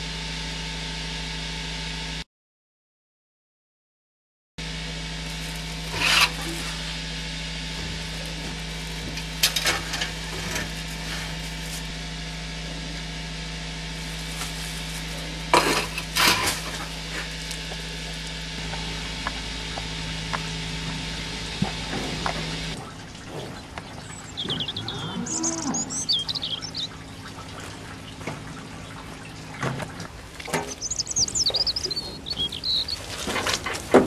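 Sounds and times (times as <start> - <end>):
steady low hum: 4.6 - 34.0.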